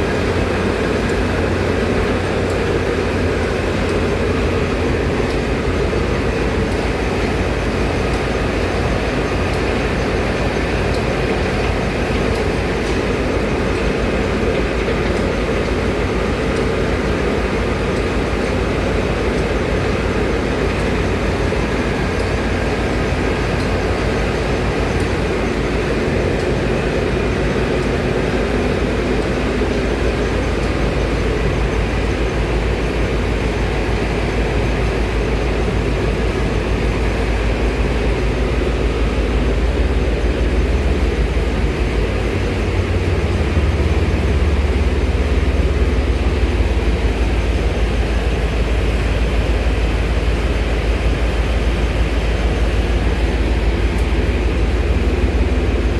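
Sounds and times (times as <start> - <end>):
low mechanical rumble: 0.0 - 55.9.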